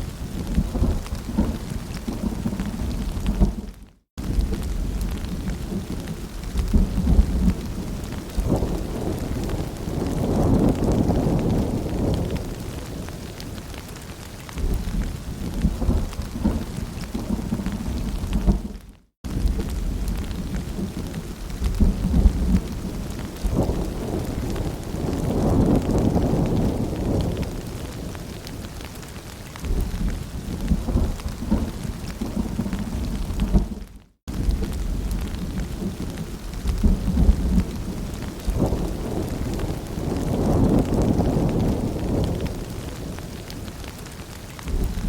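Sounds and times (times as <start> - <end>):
raindrops pattering: 0.0 - 45.0
rolling thunder: 0.3 - 13.1, 14.6 - 28.4, 29.6 - 44.0, 44.6 - 45.0.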